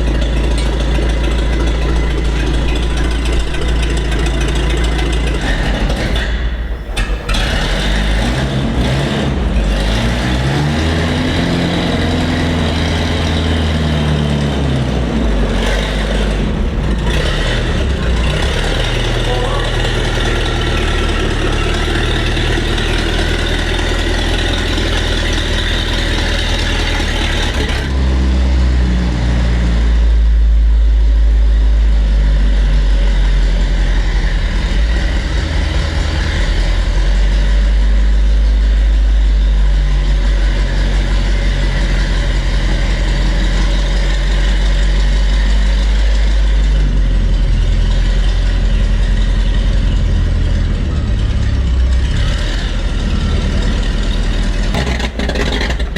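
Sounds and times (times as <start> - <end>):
armoured car engine running: 0.0 - 55.9.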